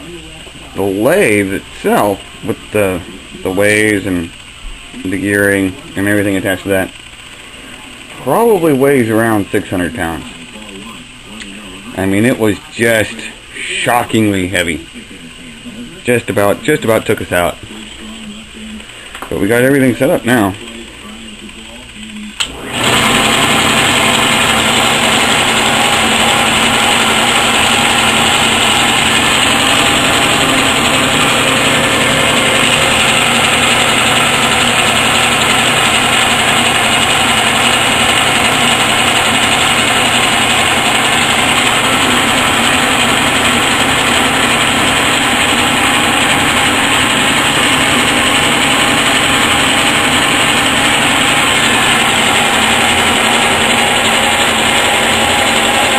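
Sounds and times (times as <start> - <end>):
metal lathe whirring: 0.0 - 55.9.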